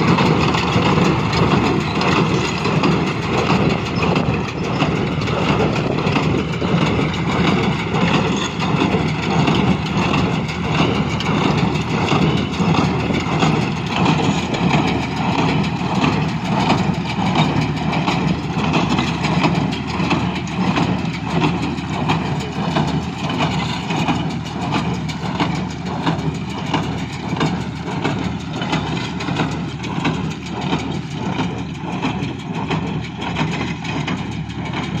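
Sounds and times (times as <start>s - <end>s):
baler mechanism beating: 0.0s - 35.0s
tractor engine running: 0.0s - 35.0s.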